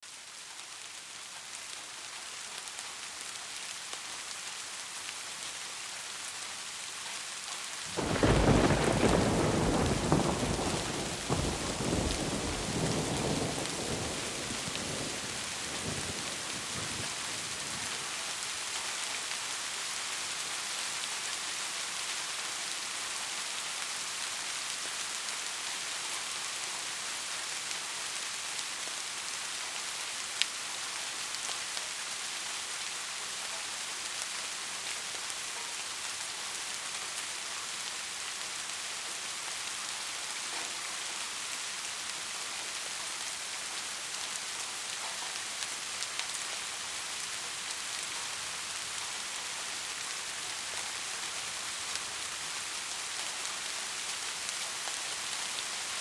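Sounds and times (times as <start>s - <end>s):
heavy rain falling: 0.1s - 56.0s.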